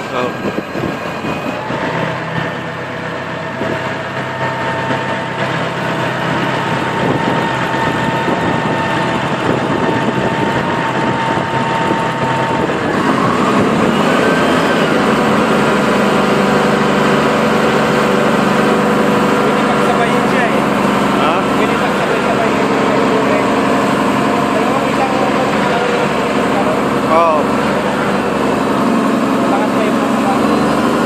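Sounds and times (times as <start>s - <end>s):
diesel engine running: 0.0s - 31.0s
steady machine whine: 0.0s - 31.0s.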